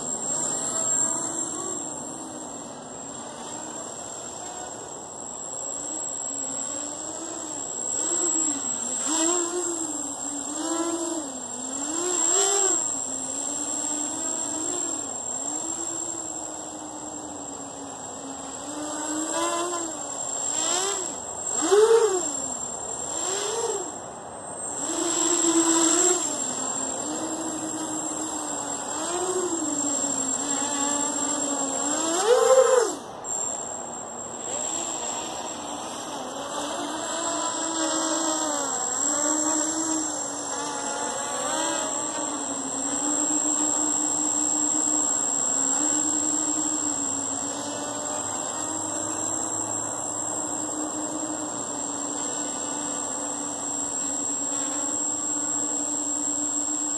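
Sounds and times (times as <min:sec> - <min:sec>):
quadcopter motors buzzing: 0:00.0 - 0:56.9.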